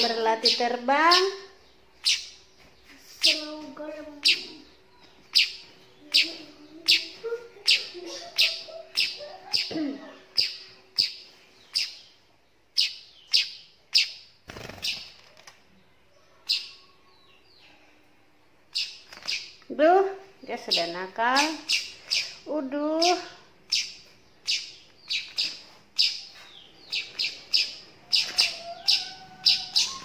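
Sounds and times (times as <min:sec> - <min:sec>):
bird fledgling chirping: 0:00.0 - 0:15.2, 0:16.2 - 0:17.6, 0:18.7 - 0:19.8, 0:20.4 - 0:30.0.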